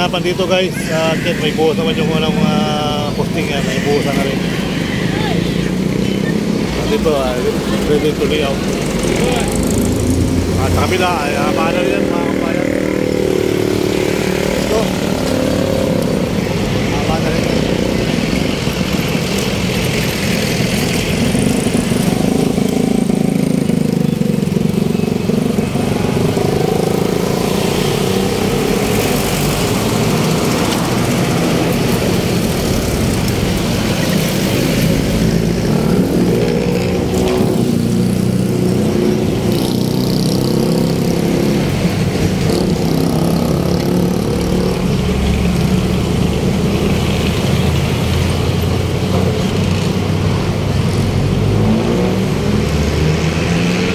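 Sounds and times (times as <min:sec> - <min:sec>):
road traffic noise: 0:00.0 - 0:53.9
vehicle engines running: 0:00.0 - 0:53.9.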